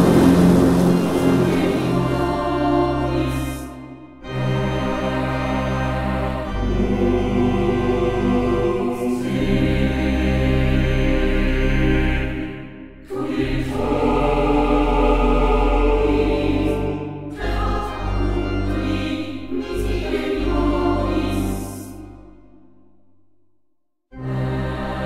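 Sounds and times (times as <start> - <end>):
music with choral singing: 0.0 - 23.0, 24.2 - 25.0.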